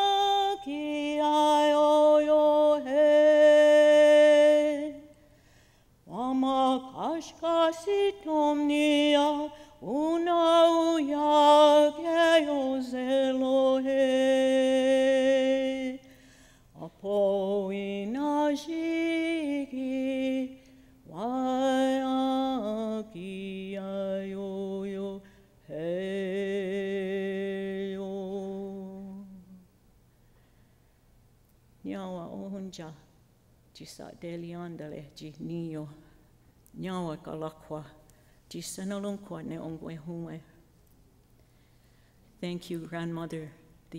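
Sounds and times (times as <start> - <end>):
woman singing unaccompanied: 0.0 - 5.2, 6.0 - 16.1, 16.8 - 29.6, 31.8 - 33.1, 33.7 - 40.6, 42.4 - 43.9.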